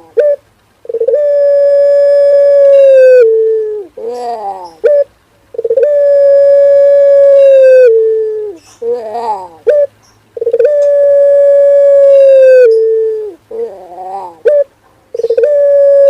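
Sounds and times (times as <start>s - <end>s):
turtle dove cooing: 0.0s - 16.0s.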